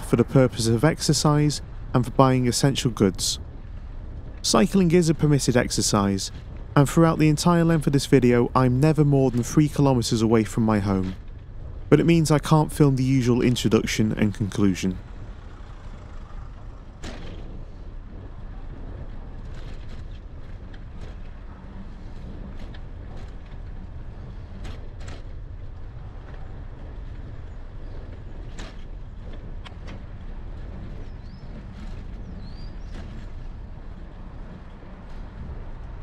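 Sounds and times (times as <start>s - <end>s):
moving bicycle rumble: 0.0s - 36.0s
wind noise: 0.0s - 36.0s.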